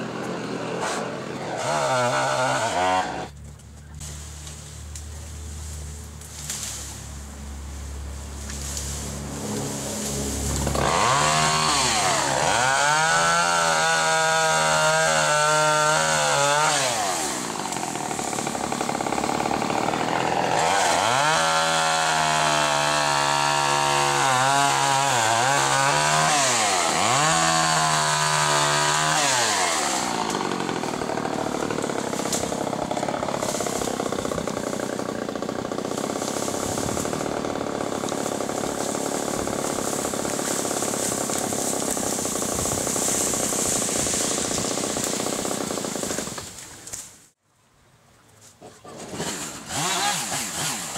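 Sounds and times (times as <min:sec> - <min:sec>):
chainsaw revving: 0:00.0 - 0:03.3, 0:09.3 - 0:46.6, 0:48.9 - 0:50.9.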